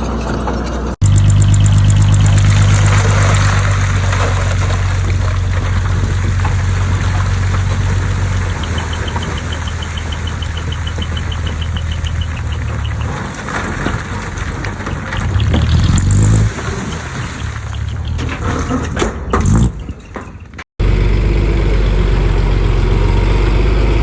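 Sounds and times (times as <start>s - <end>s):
diesel machinery droning: 0.0s - 19.9s, 20.8s - 24.0s.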